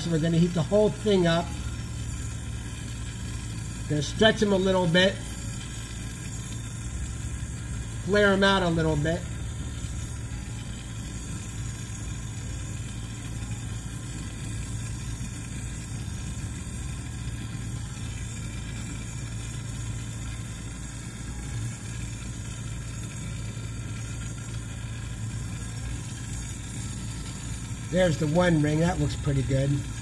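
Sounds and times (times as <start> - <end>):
constant low hum: 0.0 - 30.0
torch flame hissing: 0.0 - 30.0.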